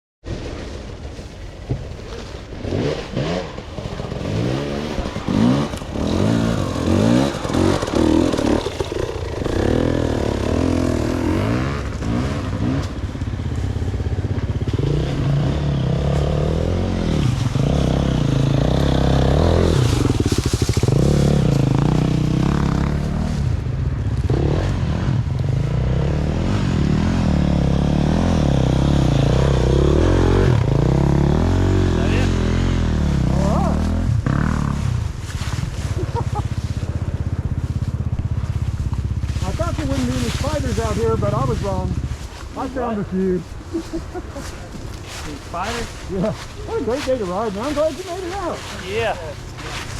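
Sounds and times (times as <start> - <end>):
dirt bike engines revving: 0.3 - 49.9.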